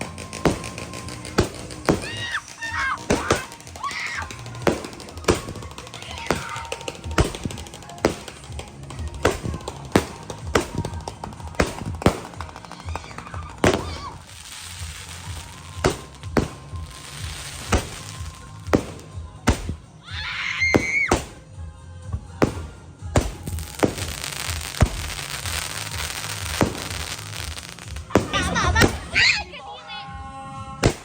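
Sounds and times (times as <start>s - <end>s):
fireworks bangs: 0.0s - 21.5s, 22.1s - 29.5s, 30.8s - 31.0s
fireworks crackling: 0.0s - 29.6s, 30.7s - 31.0s
music: 0.0s - 31.0s.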